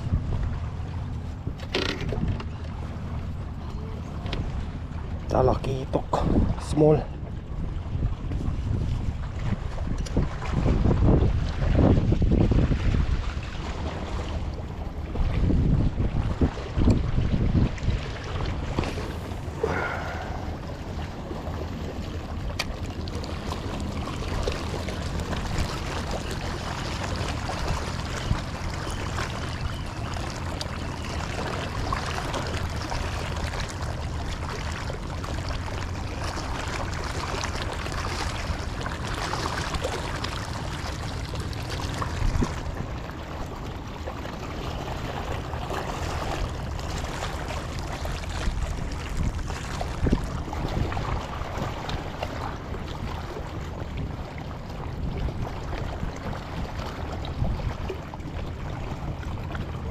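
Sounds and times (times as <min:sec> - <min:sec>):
wind rumbling on microphone: 0:00.0 - 0:59.9
waves lapping over rocks: 0:08.7 - 0:59.9.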